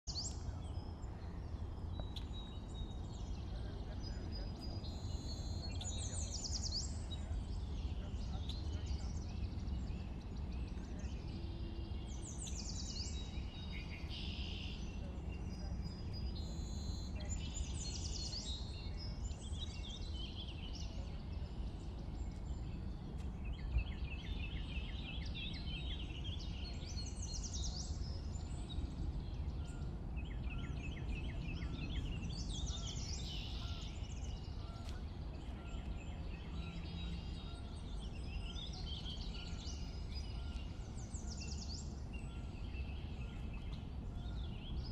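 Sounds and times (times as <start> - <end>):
songbirds singing: 0.0 - 44.9
low background rumble: 0.2 - 44.9.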